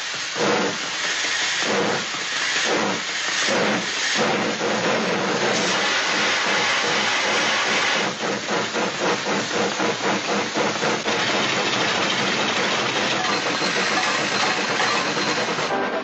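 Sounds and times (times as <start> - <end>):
steam train chuffing and hissing: 0.0 - 16.0.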